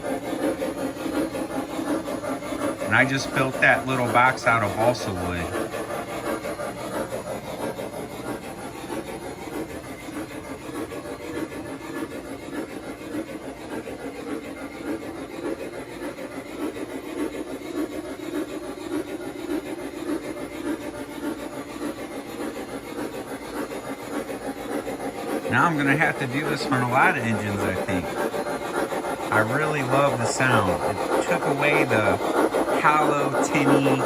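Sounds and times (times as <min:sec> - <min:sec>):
electronic steam chuff from speaker: 0:00.0 - 0:34.0.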